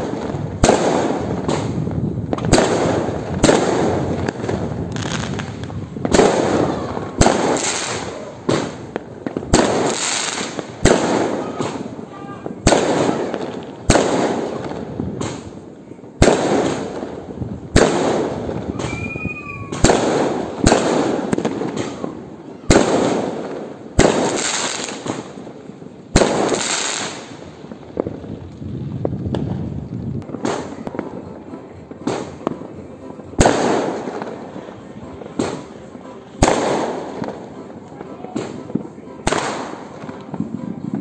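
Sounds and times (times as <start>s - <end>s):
fireworks banging: 0.0s - 41.0s.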